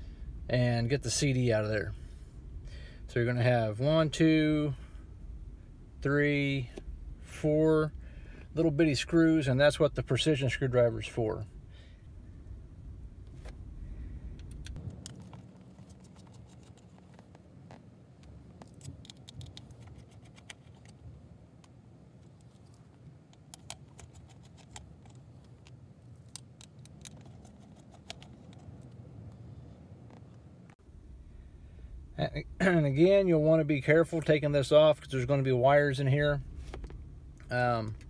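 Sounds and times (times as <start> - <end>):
faint low rumble: 0.0 - 38.0.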